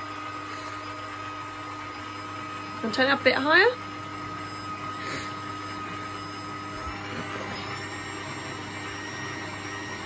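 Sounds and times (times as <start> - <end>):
stand mixer motor whine: 0.0 - 10.0.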